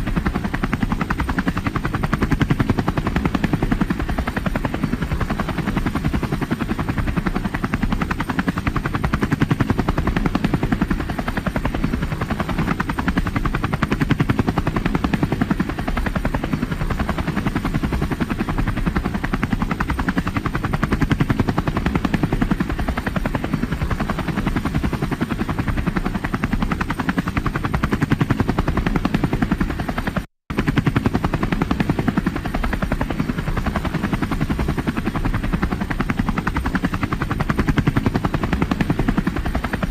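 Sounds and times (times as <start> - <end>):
helicopter rotor chopping: 0.0 - 39.9.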